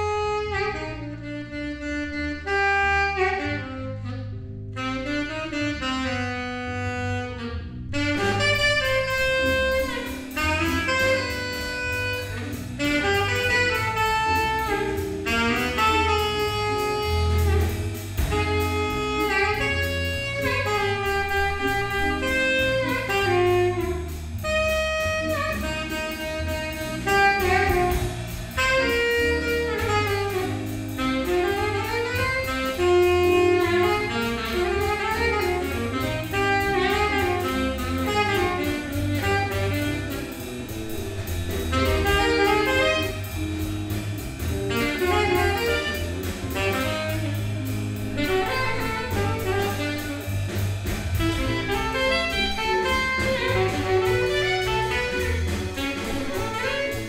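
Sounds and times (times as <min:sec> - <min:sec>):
drum kit: 0:00.0 - 0:57.0
electric bass: 0:00.0 - 0:57.0
saxophone lead: 0:00.0 - 0:57.0.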